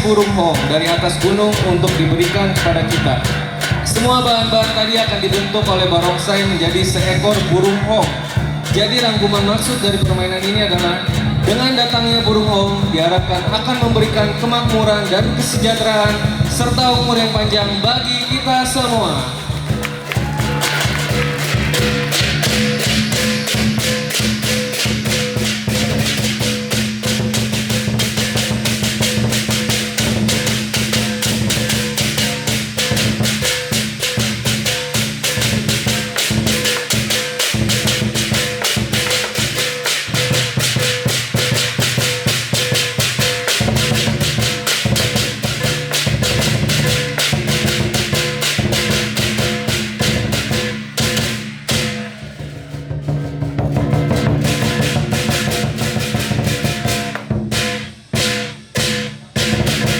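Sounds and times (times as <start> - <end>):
drum and cymbals beating: 0.0 - 59.9.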